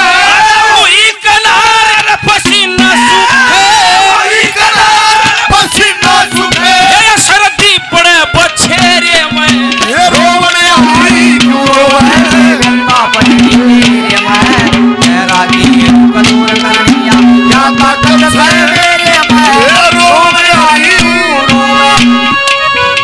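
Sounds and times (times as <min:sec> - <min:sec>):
rapid hand drum strokes: 0:02.2 - 0:23.0.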